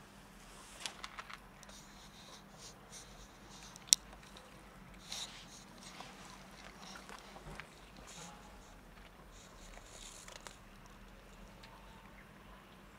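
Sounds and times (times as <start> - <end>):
cat chewing dry kibble: 0.8 - 12.2.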